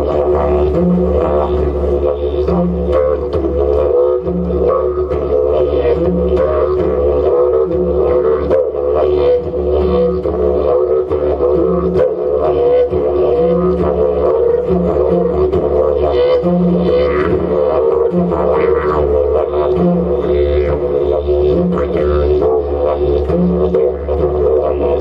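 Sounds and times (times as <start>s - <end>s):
didgeridoo low drone: 0.0s - 25.0s
higher didgeridoo note: 0.0s - 25.0s.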